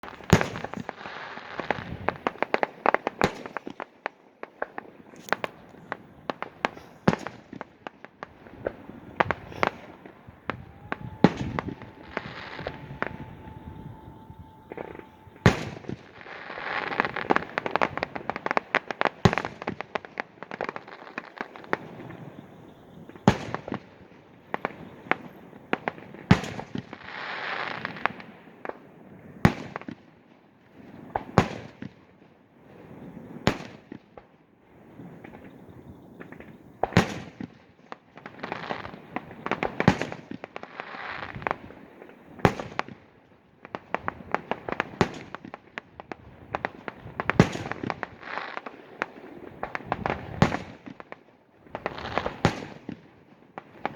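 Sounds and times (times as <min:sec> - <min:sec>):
fireworks crackling and hissing: 0:00.0 - 0:53.9.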